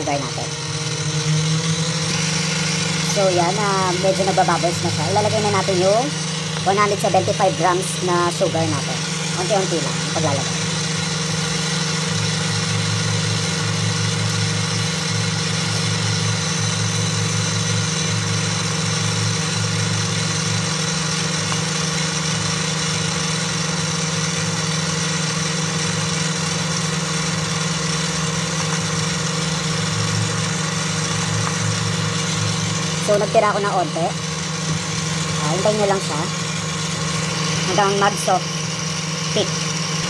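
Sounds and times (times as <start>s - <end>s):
stand mixer motor hum: 0.0s - 40.0s.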